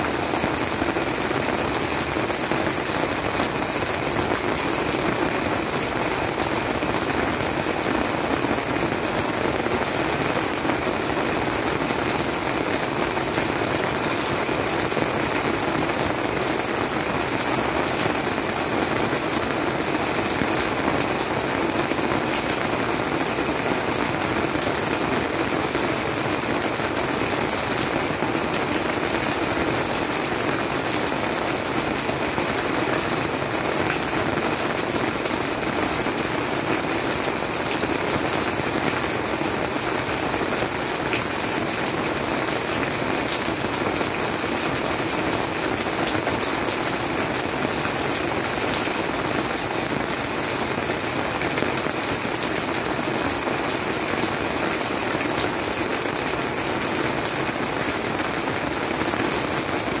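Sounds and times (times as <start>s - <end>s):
rain falling on leafy plants: 0.0s - 60.0s.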